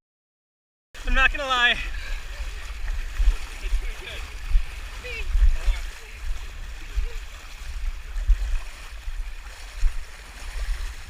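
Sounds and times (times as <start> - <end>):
rushing river water: 1.0 - 11.0
low rumble on microphone: 1.9 - 11.0.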